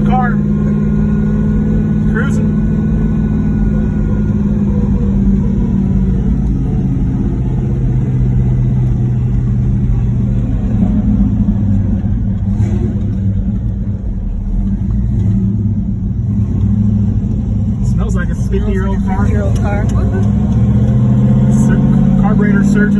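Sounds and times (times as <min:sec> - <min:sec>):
car engine rumbling: 0:00.0 - 0:22.9.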